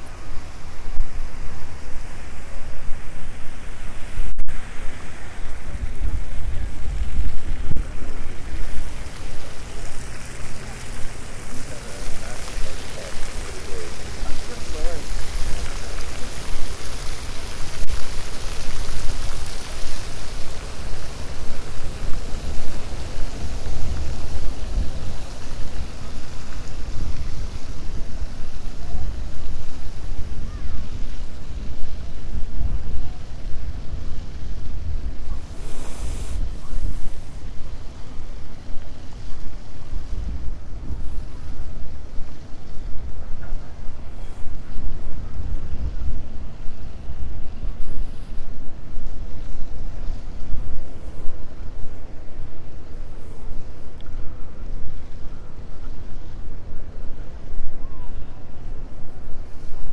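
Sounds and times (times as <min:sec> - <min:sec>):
fountain jets splashing: 0:00.0 - 0:59.9
wind buffeting microphone: 0:00.0 - 0:59.9.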